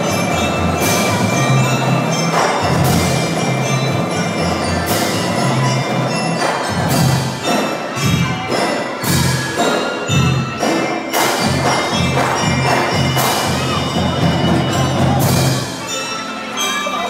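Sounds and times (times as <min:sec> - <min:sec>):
bell-like mallet melody: 0:00.0 - 0:17.0
marching percussion band: 0:00.0 - 0:17.0.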